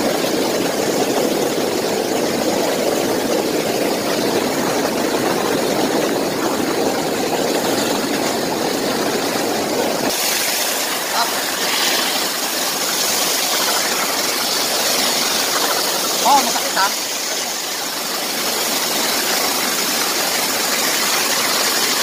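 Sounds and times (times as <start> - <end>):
pool jets churning water: 0.0 - 22.0
water spout pouring into pool: 0.0 - 22.0.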